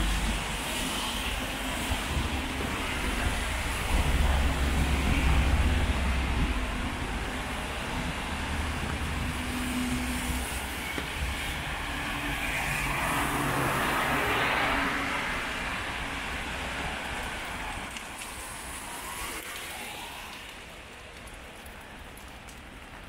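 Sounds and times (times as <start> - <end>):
tyres hissing on wet road: 0.0 - 23.0.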